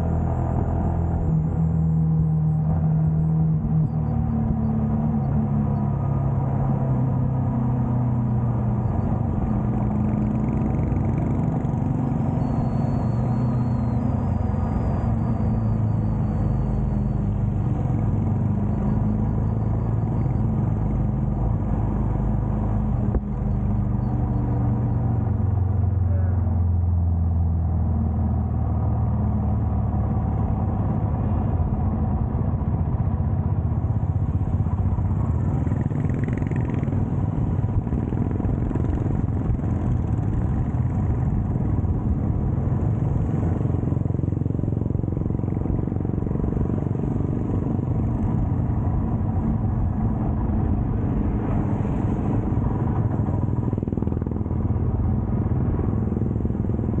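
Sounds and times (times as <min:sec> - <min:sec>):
road noise: 0:00.0 - 0:57.0
motorcycle engine running: 0:00.9 - 0:26.5, 0:31.4 - 0:57.0.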